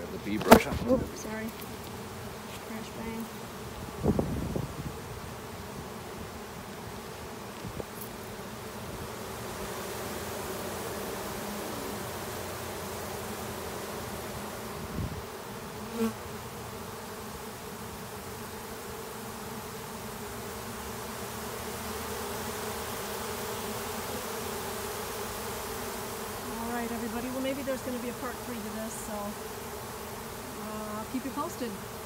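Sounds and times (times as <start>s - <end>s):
bee swarm buzzing: 0.0s - 32.0s.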